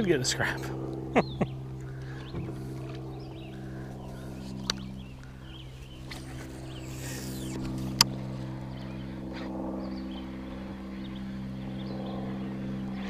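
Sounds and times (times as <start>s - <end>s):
small boat motor humming: 0.0s - 13.0s.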